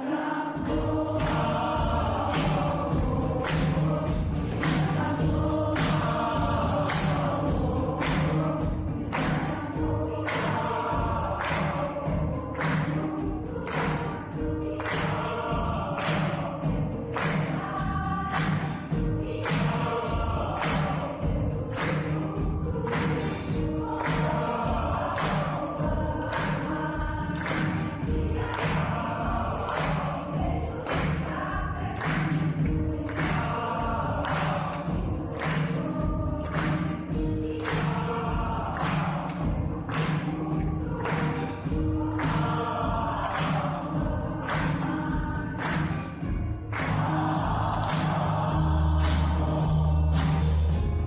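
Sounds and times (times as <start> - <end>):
choir singing with accompaniment: 0.0 - 51.0
steady percussive beat: 0.6 - 51.0.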